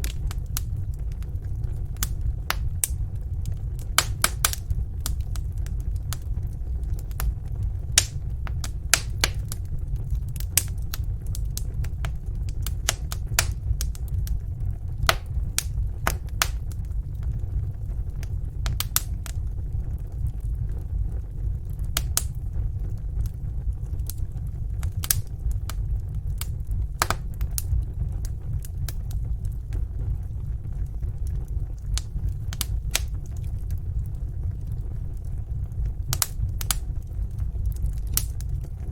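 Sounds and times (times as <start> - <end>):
low rumble of burning fire: 0.0 - 38.9
wood fire crackling and popping: 0.0 - 38.9.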